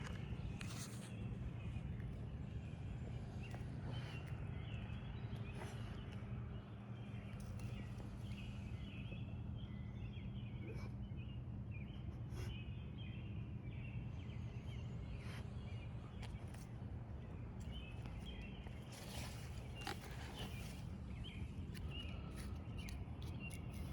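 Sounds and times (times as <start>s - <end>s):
low background rumble: 0.0s - 23.9s
songbirds chirping and singing: 0.0s - 23.9s.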